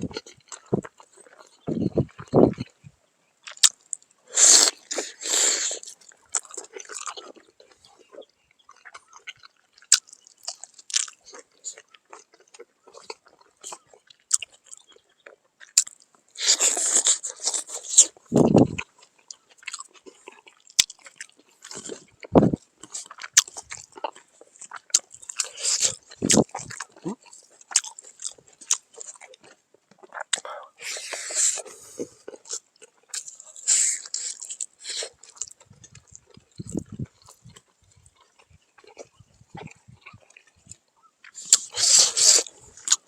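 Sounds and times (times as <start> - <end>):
person chewing crunchy food: 0.0 - 43.0.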